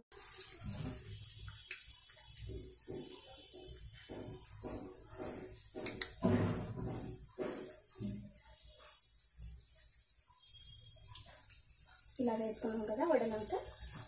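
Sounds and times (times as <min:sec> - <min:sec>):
hot oil sizzling and bubbling: 0:00.0 - 0:14.0.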